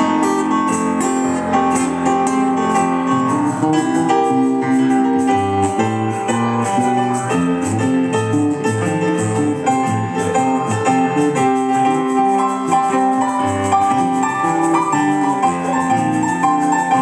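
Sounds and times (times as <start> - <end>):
digital keyboard playing piano chords: 0.0 - 17.0.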